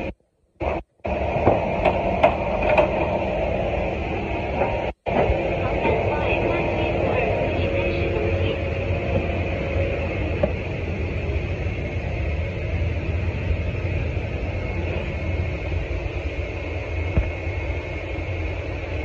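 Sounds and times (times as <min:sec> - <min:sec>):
machinery rumble with hiss: 0:00.0 - 0:19.0.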